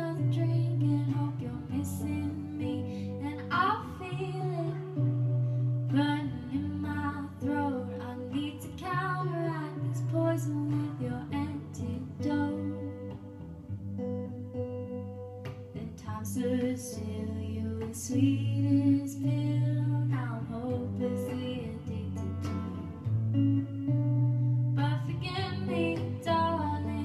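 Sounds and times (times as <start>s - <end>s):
woman singing a slow ballad: 0.0s - 13.6s, 15.7s - 23.0s, 23.8s - 27.0s
acoustic guitar: 0.0s - 27.0s.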